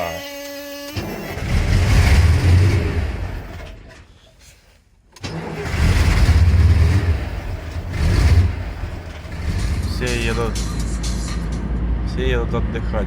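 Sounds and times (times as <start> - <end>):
engine rumbling: 1.0 - 13.0.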